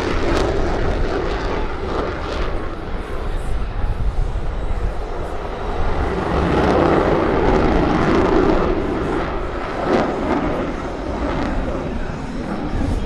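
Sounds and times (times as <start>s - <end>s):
jet engine rumble: 0.0s - 13.0s.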